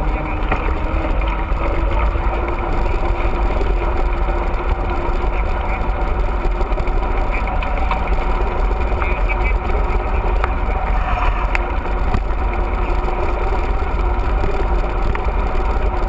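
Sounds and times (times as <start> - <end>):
bike rolling rumble on trail: 0.0 - 16.0.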